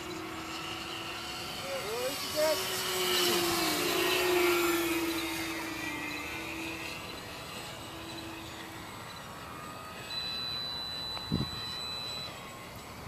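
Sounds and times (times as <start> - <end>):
model airplane engine whining: 0.0 - 13.0.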